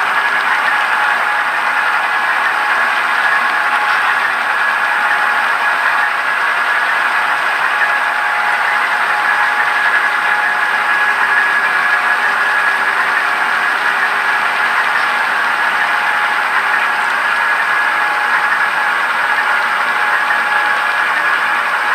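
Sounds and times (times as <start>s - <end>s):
model train wheels rolling: 0.0s - 21.9s.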